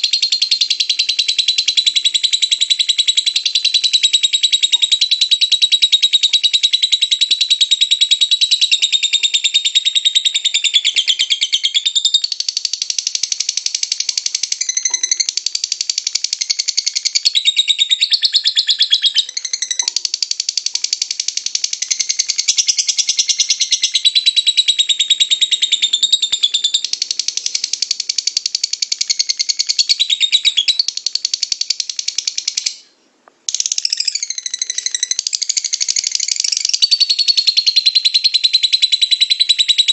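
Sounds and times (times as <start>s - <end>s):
lovebird chattering trill: 0.0s - 32.8s, 33.5s - 39.9s.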